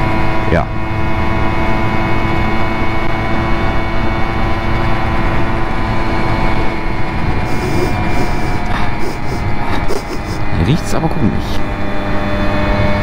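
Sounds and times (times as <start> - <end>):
wind rumble: 0.1 - 13.0
moped engine running: 0.2 - 13.0.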